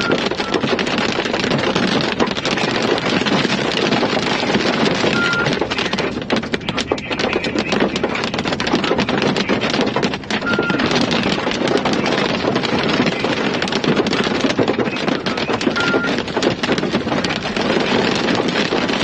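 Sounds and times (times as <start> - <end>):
heavy rain on windshield: 0.0 - 19.0.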